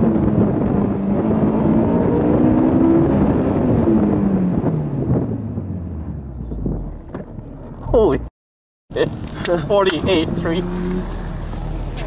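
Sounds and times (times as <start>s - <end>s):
car engine accelerating: 0.0s - 8.3s, 8.9s - 12.0s.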